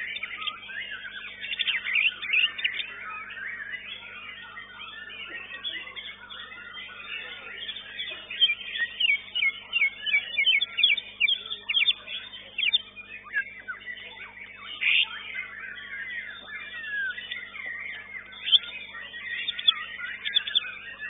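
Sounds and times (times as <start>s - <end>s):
bird whistled song: 0.0s - 21.0s
other birds chirping: 0.0s - 21.0s.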